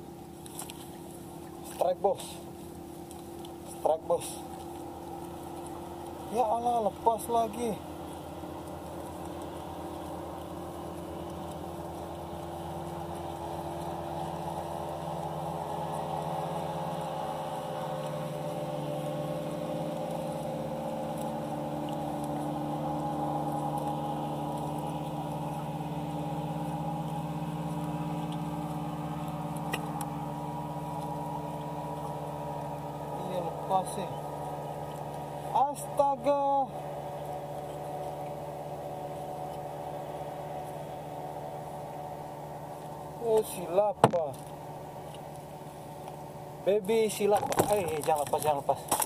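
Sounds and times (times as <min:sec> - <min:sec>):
motorboat engine running: 0:00.0 - 0:49.0.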